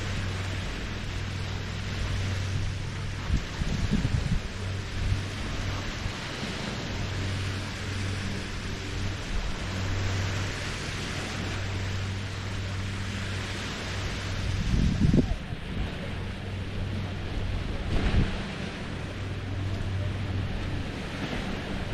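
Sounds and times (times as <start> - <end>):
low motor hum: 0.0 - 21.9
waves lapping on shore: 0.0 - 21.9.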